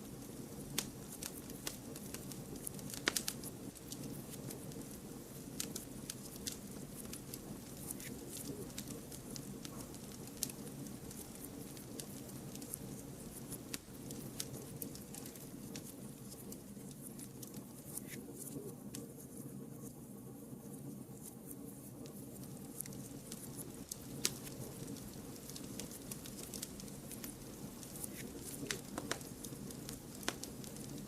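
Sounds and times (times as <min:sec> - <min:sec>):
rush of fire flames: 0:00.0 - 0:19.0, 0:22.0 - 0:31.0
wood fire crackles and pops: 0:00.0 - 0:31.0.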